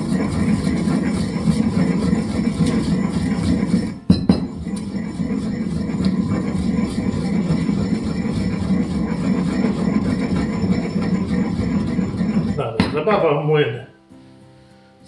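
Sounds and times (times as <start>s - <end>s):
stone pestle grinding in mortar: 0.0s - 13.2s.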